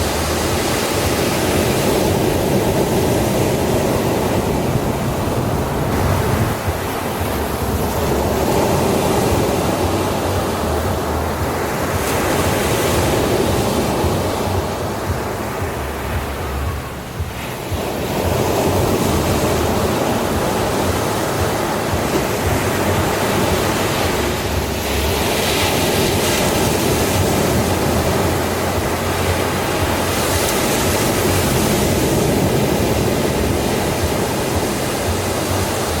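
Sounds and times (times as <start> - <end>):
waves breaking on sandy beach: 0.0 - 36.0.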